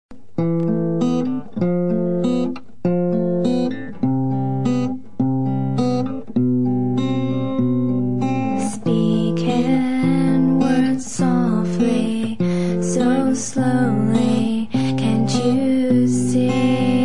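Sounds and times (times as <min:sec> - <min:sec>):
slow guitar chords ringing: 0:00.3 - 0:17.0.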